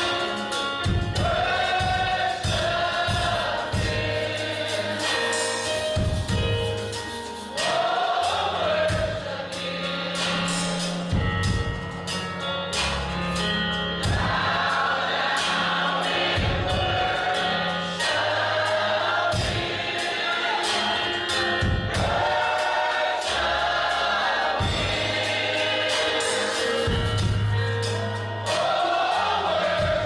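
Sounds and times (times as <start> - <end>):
band accompaniment: 0.0 - 30.0
gospel choir singing: 0.0 - 30.0.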